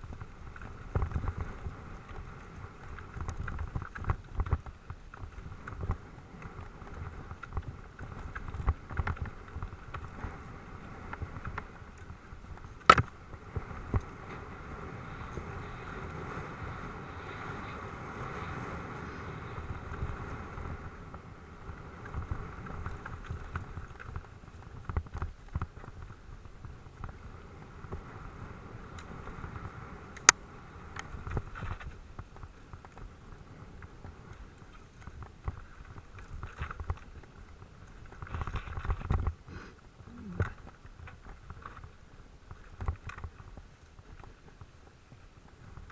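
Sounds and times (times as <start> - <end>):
bike tyre rumble on dirt: 0.0 - 45.9
wind on microphone: 0.0 - 45.9.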